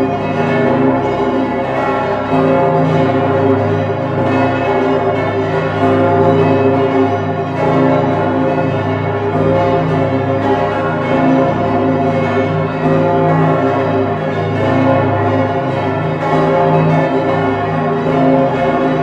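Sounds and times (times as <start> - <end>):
large bells ringing: 0.0 - 19.0.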